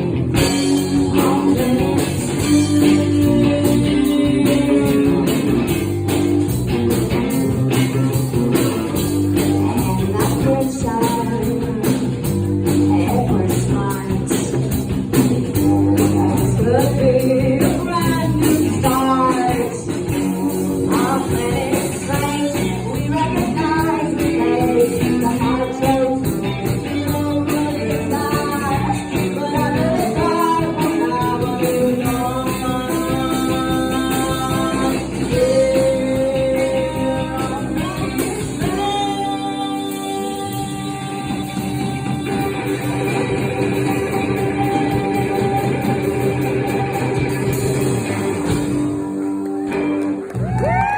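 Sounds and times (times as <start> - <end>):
person singing: 0.0 - 5.9, 9.3 - 47.8
electric guitar: 0.0 - 50.9.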